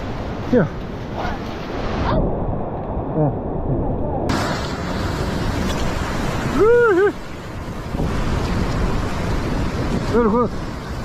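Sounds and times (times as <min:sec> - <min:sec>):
ocean waves against rocks: 0:00.0 - 0:03.5, 0:04.2 - 0:11.0
wind buffeting microphone: 0:00.0 - 0:11.0.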